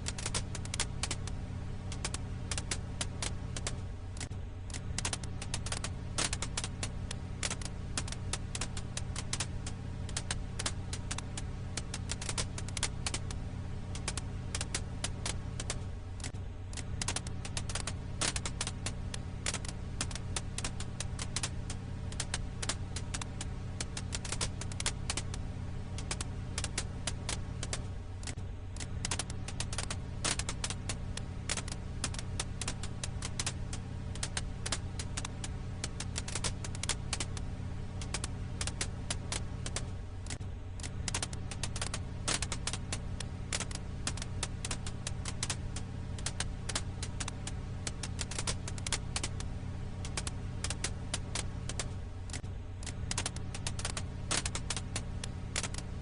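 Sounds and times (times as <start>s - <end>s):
low rumble: 0.0s - 56.0s
wood fire crackling: 0.0s - 56.0s.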